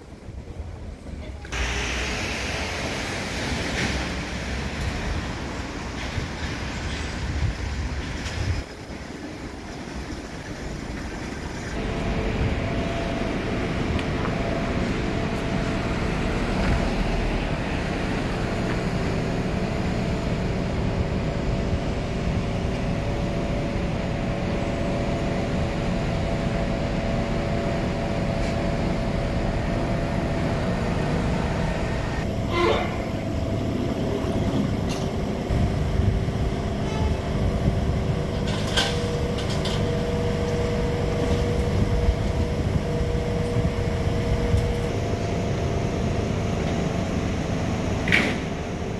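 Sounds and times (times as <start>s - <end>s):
traffic engines rumbling: 0.0s - 48.9s
constant hum: 3.6s - 48.9s.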